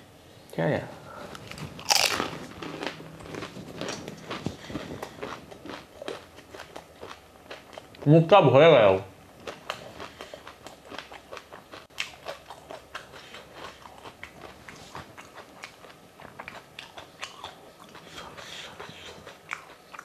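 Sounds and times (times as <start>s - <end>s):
person chewing crunchy food: 1.3s - 8.1s, 9.4s - 20.0s.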